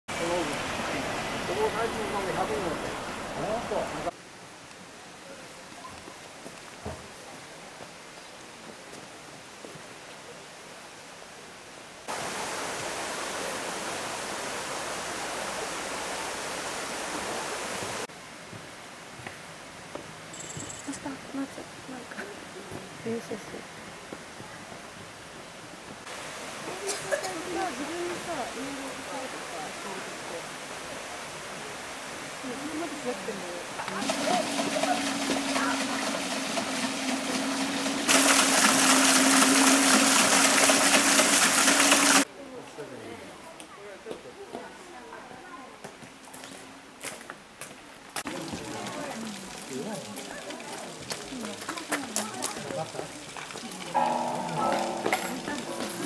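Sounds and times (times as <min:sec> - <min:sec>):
stream water rushing: 0:00.1 - 0:20.3, 0:21.0 - 0:42.3, 0:48.1 - 0:56.0.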